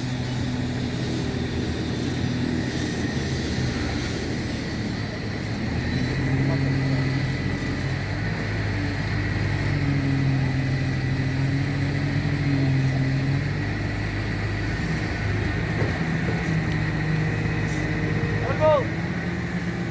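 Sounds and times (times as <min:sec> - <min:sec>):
tractor engine running: 0:00.0 - 0:19.9.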